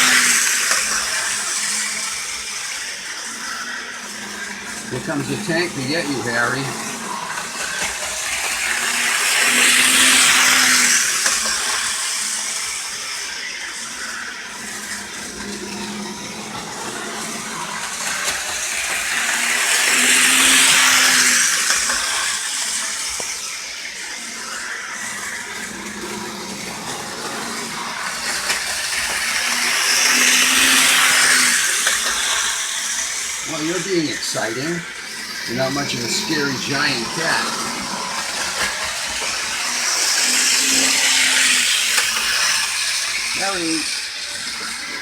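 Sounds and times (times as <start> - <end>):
model train whirring on track: 0.0 - 45.0.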